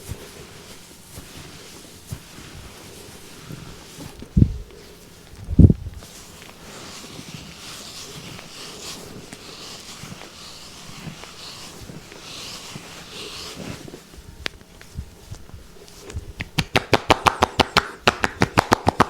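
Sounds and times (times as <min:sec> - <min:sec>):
hands rubbing over skin: 0:00.0 - 0:19.0.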